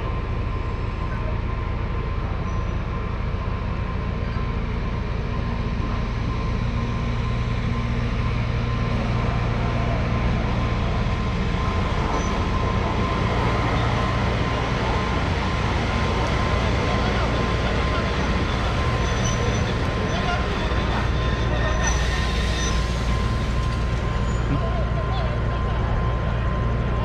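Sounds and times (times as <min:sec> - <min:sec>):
diesel locomotive engine hum: 0:00.0 - 0:27.0.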